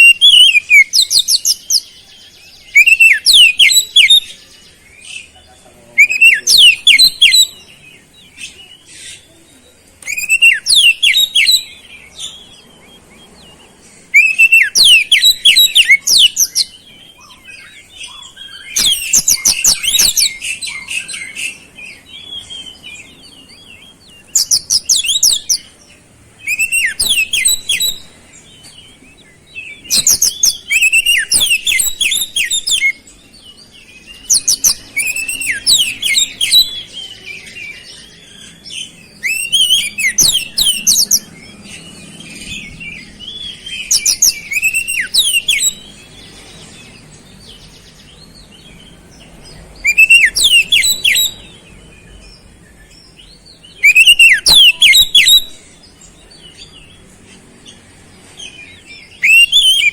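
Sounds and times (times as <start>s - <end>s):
bird singing high-pitched bursts: 0.0s - 5.3s, 6.0s - 59.9s.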